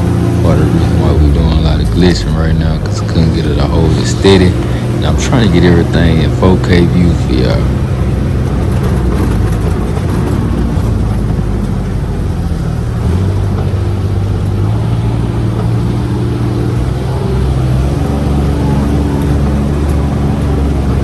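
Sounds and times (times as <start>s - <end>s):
ride rumble: 0.0s - 21.0s
utility vehicle engine running: 0.0s - 21.0s.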